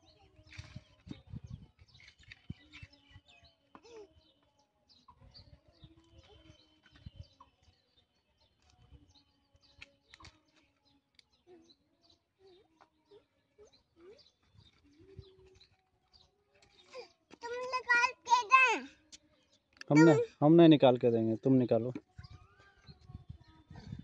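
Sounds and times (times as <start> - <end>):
faint birdsong chirps: 0.0 - 24.0.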